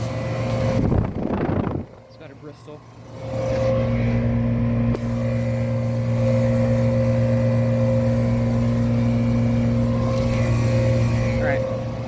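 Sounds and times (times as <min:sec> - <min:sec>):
compressor humming: 0:00.0 - 0:12.0
outdoor fan running: 0:00.0 - 0:12.0.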